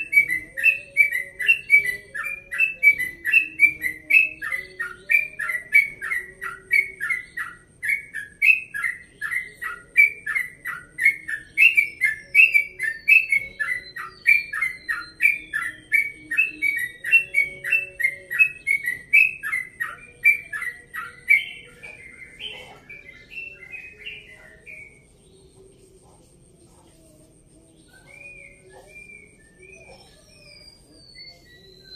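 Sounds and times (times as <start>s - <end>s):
bulbul singing: 0.0s - 31.9s.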